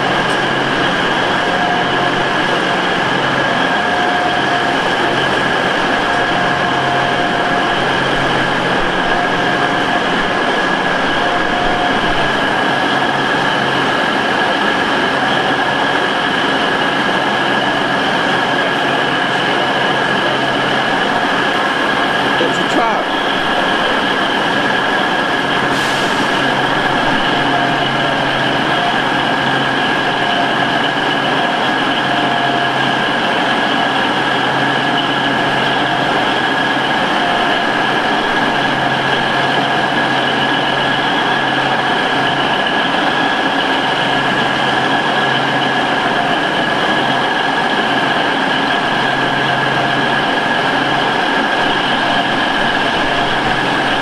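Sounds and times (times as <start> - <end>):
diesel train engine idling: 0.0 - 54.0
high-pitched whine: 0.0 - 54.0.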